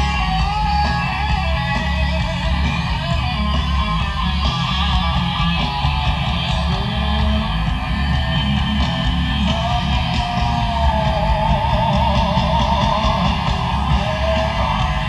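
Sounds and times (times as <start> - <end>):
live metal band playing: 0.0 - 15.0.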